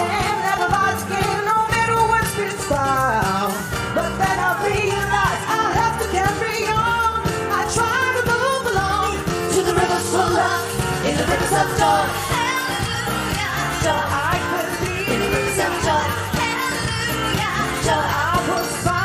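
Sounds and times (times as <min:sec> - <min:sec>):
dance-pop music: 0:00.0 - 0:19.0
women singing: 0:00.0 - 0:19.0.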